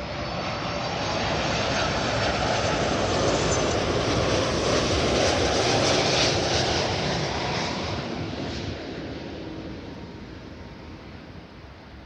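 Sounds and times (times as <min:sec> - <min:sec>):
jet engines passing overhead: 0:00.0 - 0:12.0.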